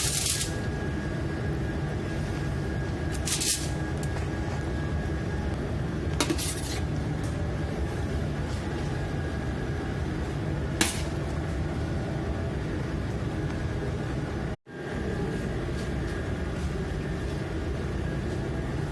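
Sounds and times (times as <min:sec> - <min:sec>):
low machinery hum: 0:00.0 - 0:18.9.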